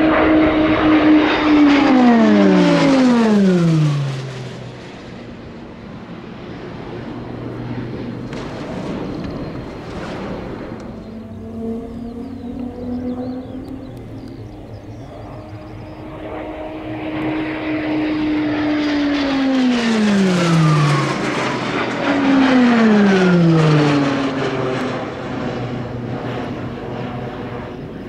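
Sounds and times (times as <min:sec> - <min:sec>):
propeller aircraft flying past: 0:00.0 - 0:28.0.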